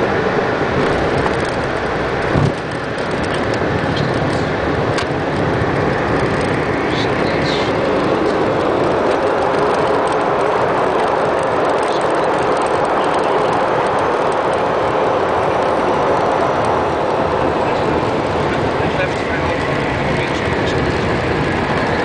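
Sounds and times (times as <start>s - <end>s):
jet engine and runway rush: 0.0s - 22.0s.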